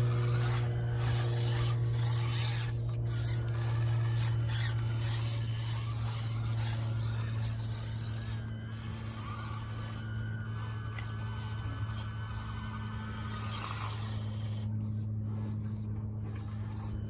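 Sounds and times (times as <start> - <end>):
low hum: 0.0 - 17.0
small gearboxes straining: 0.0 - 17.0
toy tires scrabbling over rocks: 0.0 - 17.0.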